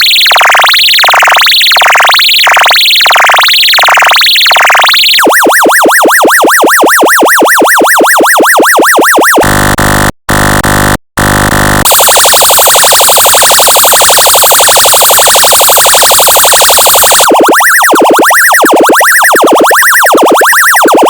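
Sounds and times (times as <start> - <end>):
electronic siren tones: 0.0 - 21.0.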